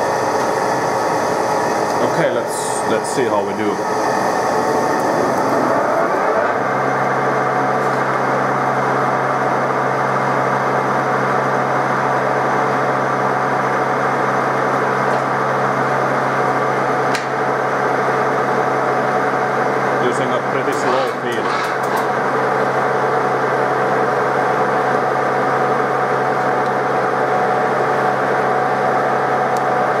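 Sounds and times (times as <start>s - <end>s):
lathe running with hum and hiss: 0.0s - 30.0s.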